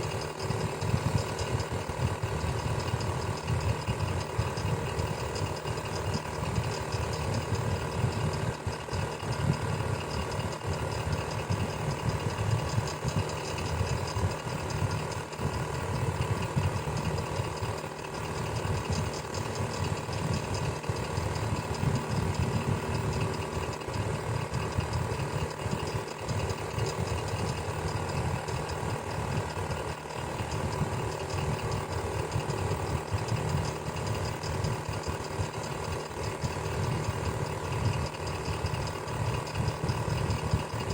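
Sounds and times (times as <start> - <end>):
electric fan running: 0.0 - 40.9.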